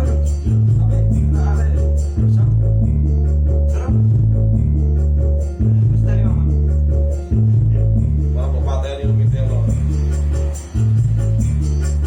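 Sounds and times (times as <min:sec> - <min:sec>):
held bass notes: 0:00.0 - 0:12.0.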